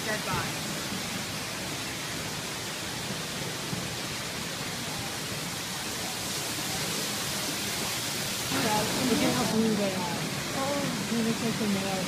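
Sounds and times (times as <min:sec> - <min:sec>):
rushing background hiss: 0:00.0 - 0:12.0.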